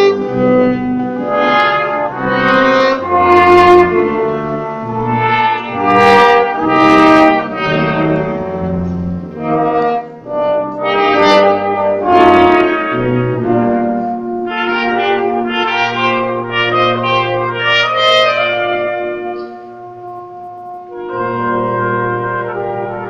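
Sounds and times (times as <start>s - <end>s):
brass quintet playing: 0.0s - 23.0s.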